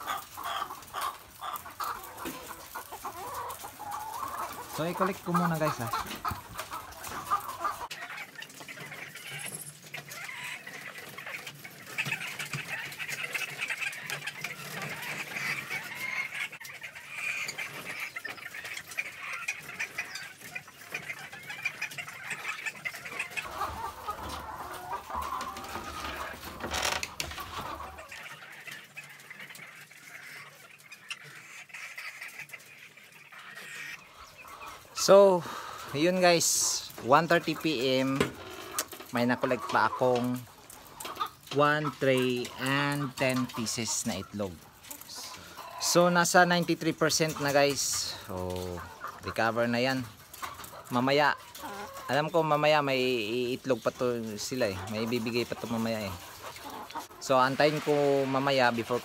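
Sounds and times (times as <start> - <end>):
hens clucking: 0.0 - 59.0.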